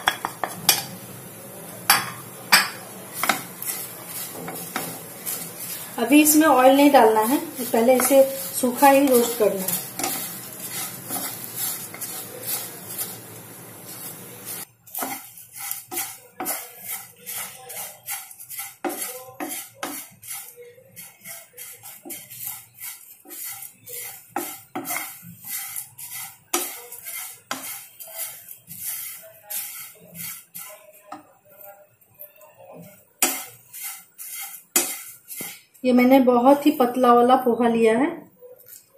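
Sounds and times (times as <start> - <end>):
spatula scraping rice in a pan: 2.5 - 35.8.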